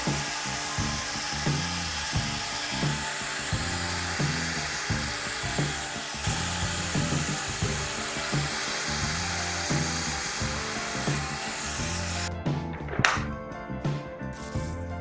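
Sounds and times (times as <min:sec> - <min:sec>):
cordless drill drilling into wood: 0:00.0 - 0:12.3
background music with steady beat: 0:00.0 - 0:15.0.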